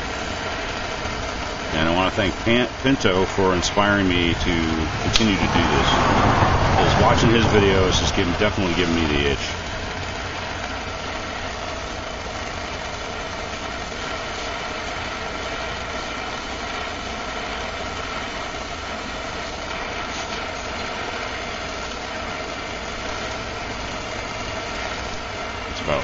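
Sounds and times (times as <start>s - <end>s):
gas torch roaring: 0.0s - 26.0s.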